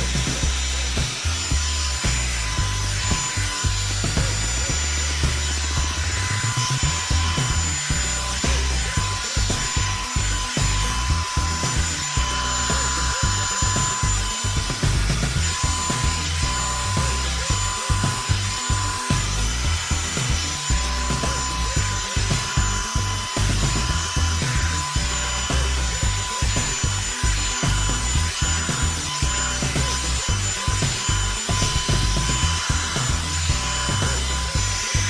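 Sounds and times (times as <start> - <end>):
hair dryer fan hiss: 0.0 - 35.0
thin high whine: 0.0 - 35.0.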